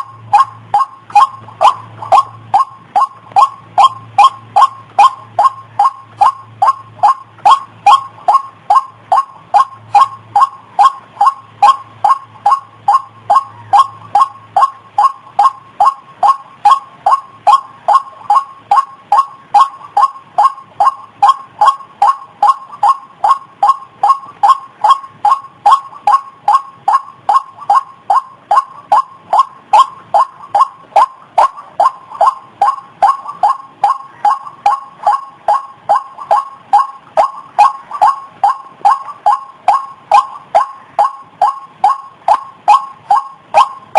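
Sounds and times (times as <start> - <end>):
bird calling harsh notes: 0.0 - 43.9.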